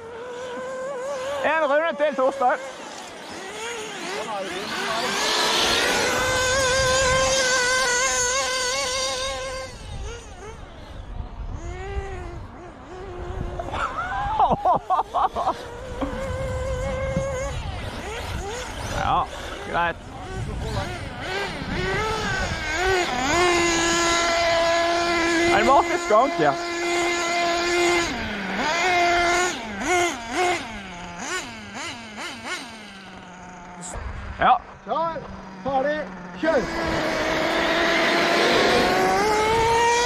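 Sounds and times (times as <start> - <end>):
small engine revving high: 0.0 - 40.0.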